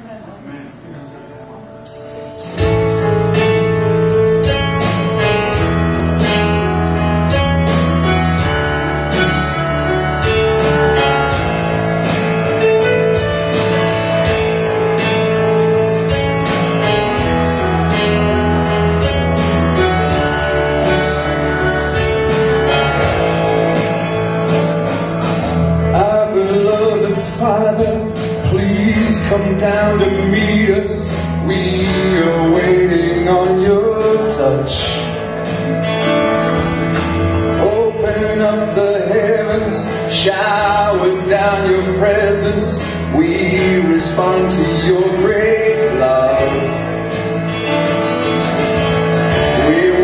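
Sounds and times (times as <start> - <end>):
keyboard: 0.0 - 50.0
guitar strumming chords: 1.3 - 50.0
bass: 1.7 - 50.0.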